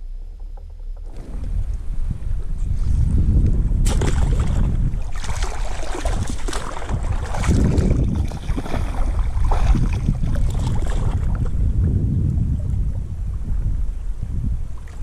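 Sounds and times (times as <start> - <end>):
water splashing against kayak hull: 0.3 - 13.1
wind buffeting microphone: 1.0 - 15.0.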